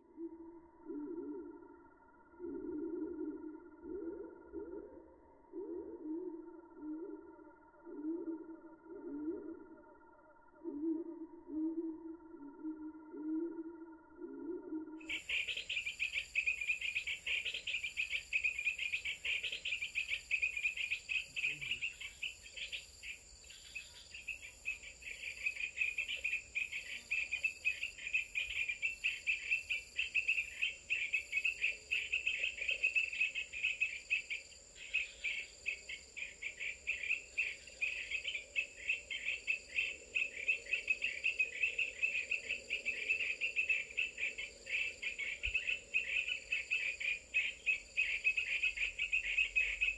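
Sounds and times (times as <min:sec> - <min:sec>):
insects chirring: 0:00.2 - 0:49.9.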